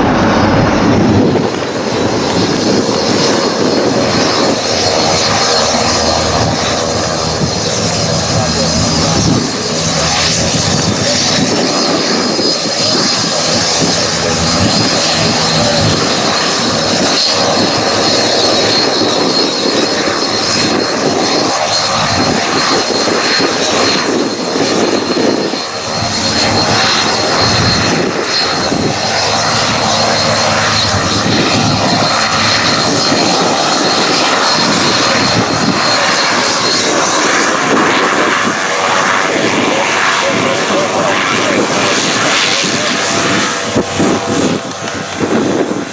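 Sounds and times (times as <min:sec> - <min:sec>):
high engine whine: 0:00.0 - 0:45.9
jet engines roaring: 0:00.0 - 0:45.9.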